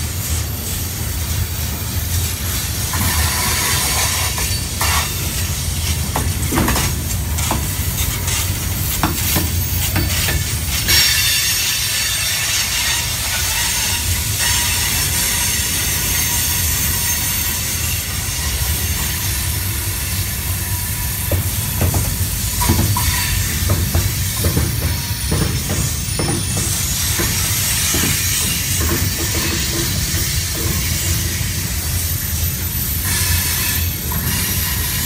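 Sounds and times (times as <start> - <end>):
train rolling past: 0.0 - 35.0.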